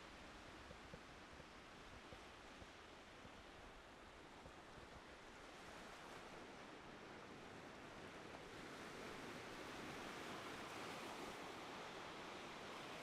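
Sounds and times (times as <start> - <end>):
faint ocean surf: 0.0 - 13.0.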